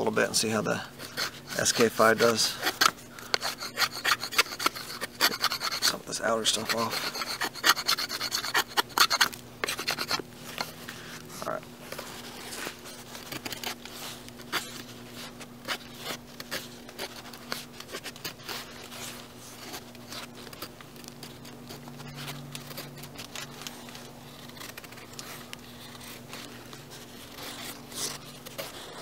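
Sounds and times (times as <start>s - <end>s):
knife scraping wood: 0.0s - 29.0s
steady low hum: 0.0s - 29.0s.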